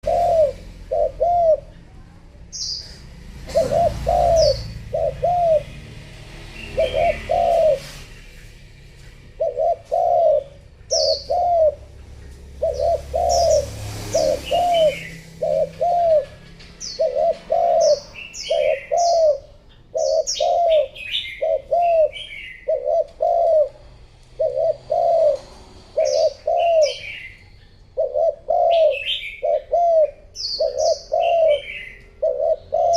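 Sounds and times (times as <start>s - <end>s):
dove cooing: 0.0s - 2.0s, 2.6s - 27.3s, 27.9s - 32.9s
small birds chirping: 0.0s - 32.9s.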